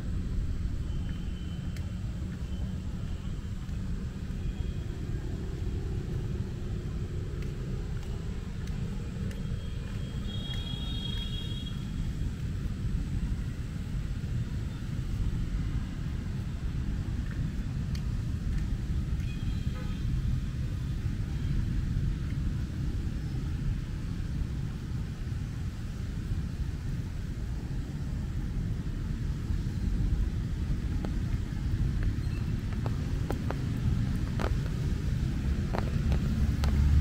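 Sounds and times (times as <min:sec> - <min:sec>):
rain on an umbrella: 0:02.0 - 0:37.0.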